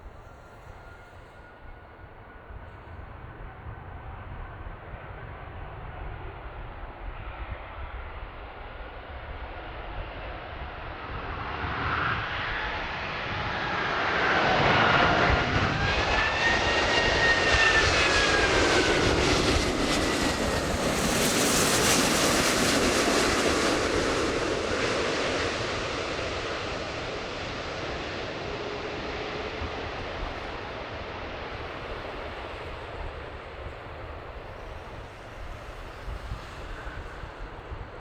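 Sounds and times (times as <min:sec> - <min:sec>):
jet airliner passing low: 0:00.0 - 0:38.0
jet engine whine: 0:00.0 - 0:38.0.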